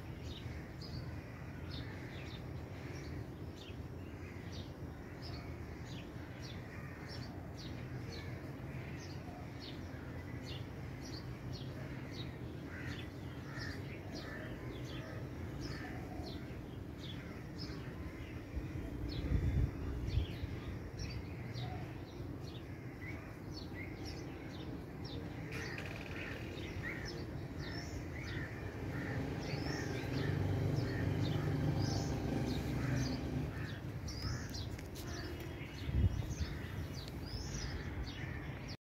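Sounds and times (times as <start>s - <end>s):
small birds chirping: 0.0s - 38.8s.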